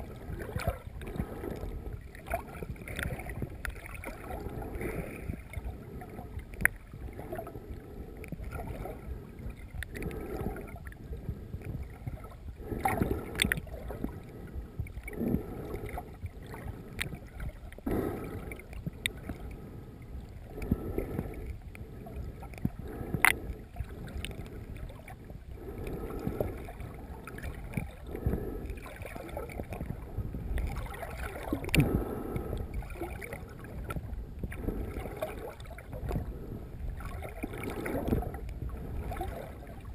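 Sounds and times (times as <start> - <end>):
muffled underwater swishing: 0.0 - 39.9.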